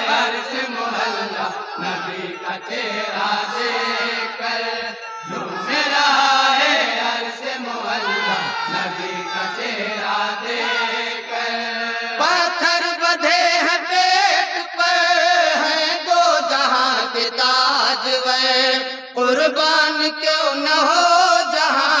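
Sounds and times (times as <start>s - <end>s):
men singing in chorus: 0.0s - 22.0s.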